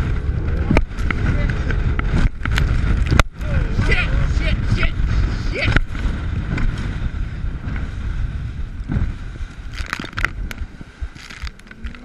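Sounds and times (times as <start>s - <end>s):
wind buffeting: 0.0s - 12.0s.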